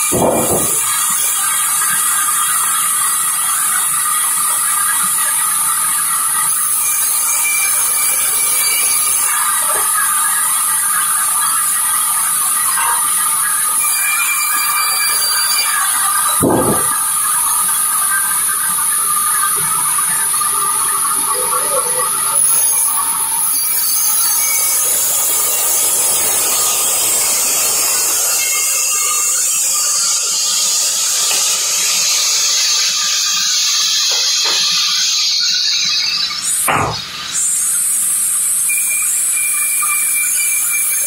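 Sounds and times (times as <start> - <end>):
band saw hissing and whining: 0.0 - 41.0.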